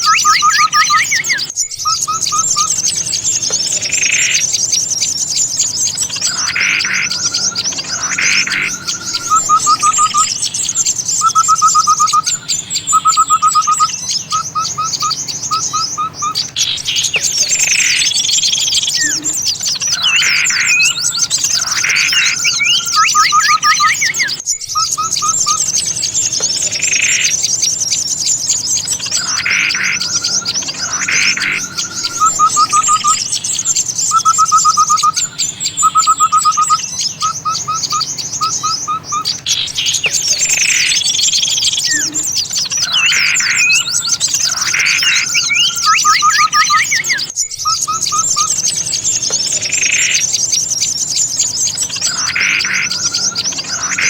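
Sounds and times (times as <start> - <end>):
loud bird chirps: 0.0 - 54.0
songbirds twittering: 0.0 - 54.0.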